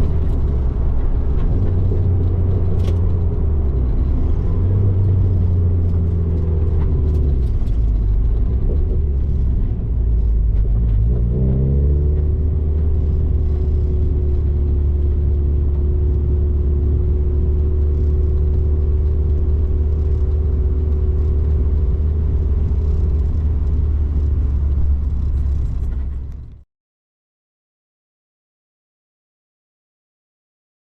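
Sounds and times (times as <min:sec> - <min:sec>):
car engine running: 0:00.0 - 0:26.6.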